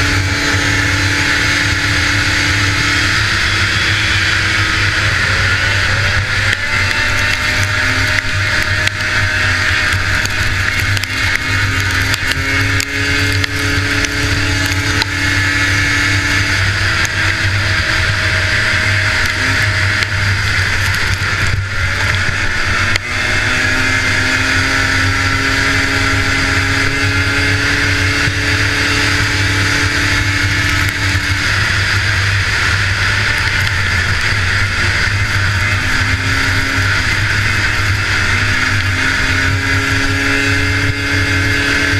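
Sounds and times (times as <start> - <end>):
snowmobile engine running hard: 0.0 - 41.9.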